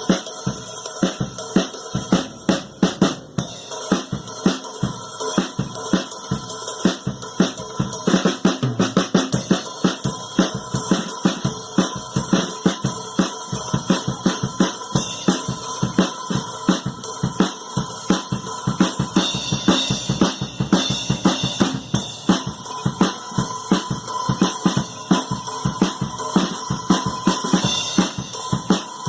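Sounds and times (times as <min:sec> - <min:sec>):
drum kit playing: 0:00.0 - 0:29.0.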